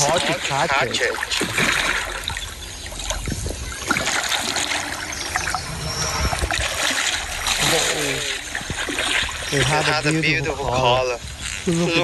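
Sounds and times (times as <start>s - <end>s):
fish thrashing and splashing: 0.0s - 10.3s.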